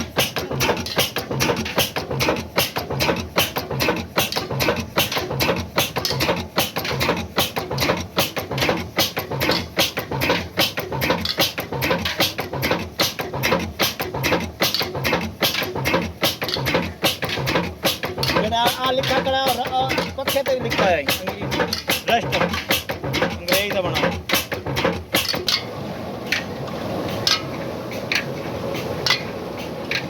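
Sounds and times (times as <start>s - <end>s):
oil engine knocking steadily: 0.0s - 30.0s.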